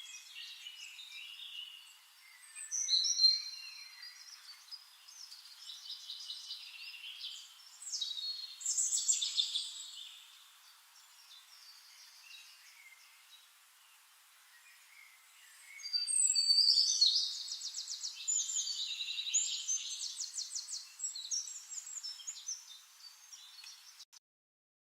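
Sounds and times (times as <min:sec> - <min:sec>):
songbirds singing: 0:00.0 - 0:24.1.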